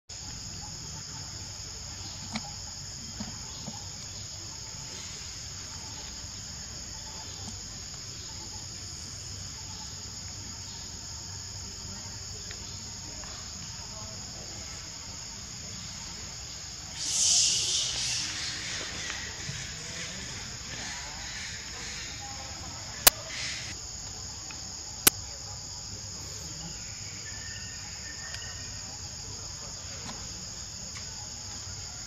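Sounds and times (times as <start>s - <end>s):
high-pitched insect chorus: 0.1s - 32.0s.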